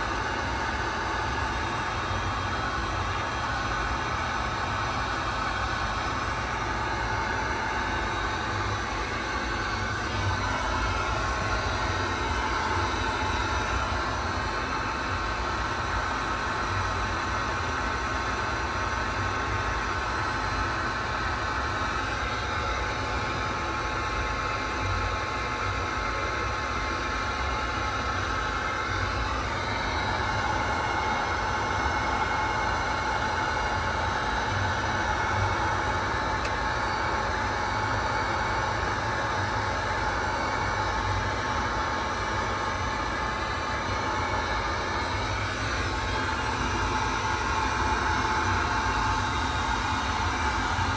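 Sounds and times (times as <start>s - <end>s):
electric motor fan whirring: 0.0s - 50.9s.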